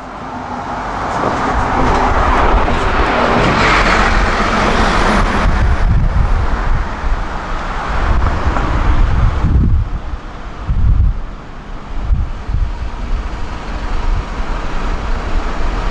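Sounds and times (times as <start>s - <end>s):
bus driving past: 0.0s - 15.9s
wind buffeting microphone: 0.6s - 15.9s.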